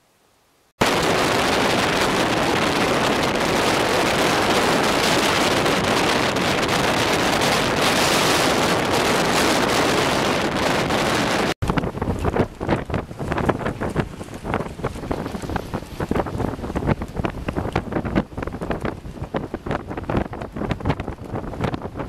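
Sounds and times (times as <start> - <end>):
blizzard wind buffeting microphone: 0.8 - 22.0.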